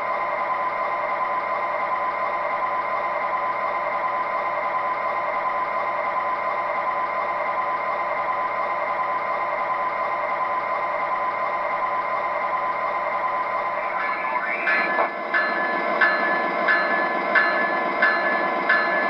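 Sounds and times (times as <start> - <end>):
model locomotive engine sound: 0.0 - 19.0.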